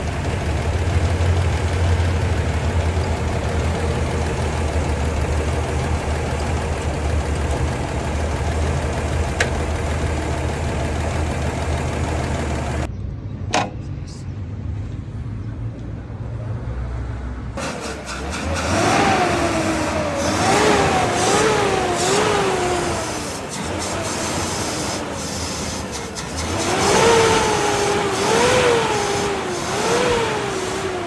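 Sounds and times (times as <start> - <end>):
car engine idling: 0.0 - 12.9, 18.5 - 31.0.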